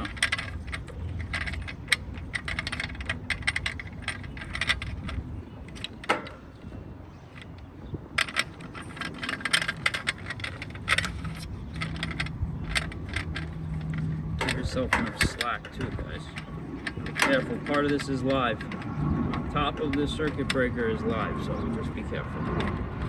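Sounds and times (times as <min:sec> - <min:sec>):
wire rattling against metal: 0:00.0 - 0:23.0.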